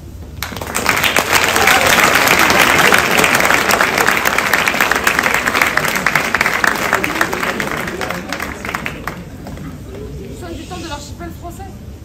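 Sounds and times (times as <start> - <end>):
crowd clapping: 0.4 - 10.1.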